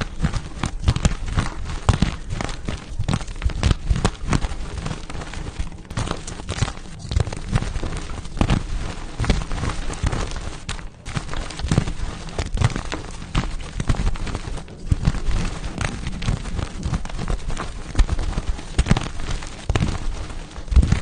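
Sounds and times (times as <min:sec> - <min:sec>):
chalk blocks crunching: 0:00.0 - 0:21.0.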